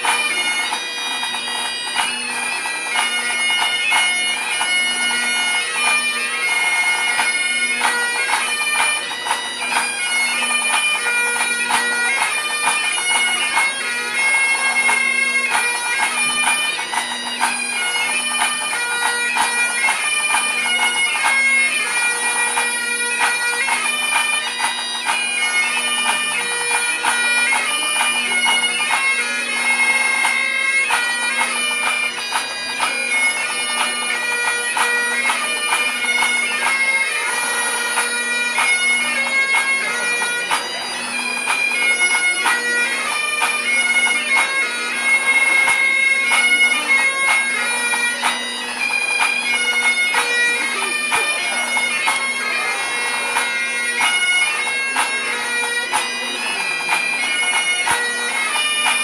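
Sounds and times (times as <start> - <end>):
bagpipes playing a march: 0.0 - 59.0.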